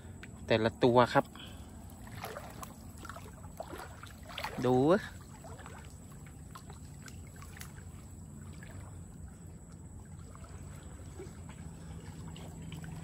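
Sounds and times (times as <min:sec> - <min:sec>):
low steady hum: 0:00.0 - 0:13.0
water splashing and trickling: 0:00.0 - 0:13.0.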